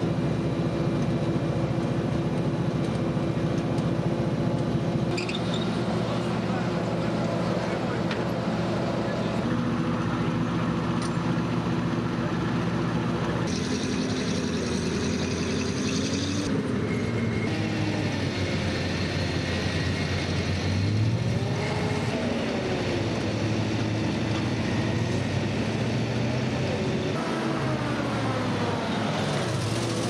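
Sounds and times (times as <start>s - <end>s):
heavy truck engine running: 0.0s - 30.0s.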